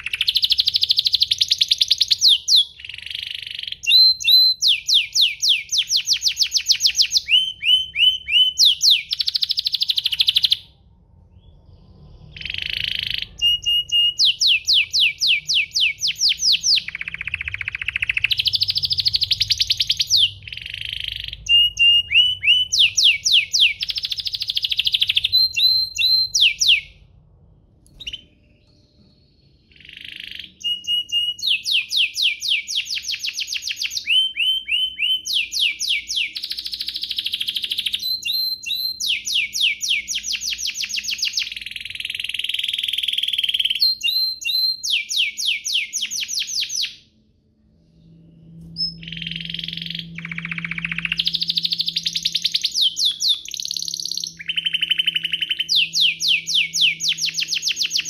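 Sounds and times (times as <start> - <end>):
canary singing trills: 0.0 - 27.0, 27.9 - 47.1, 48.0 - 58.0.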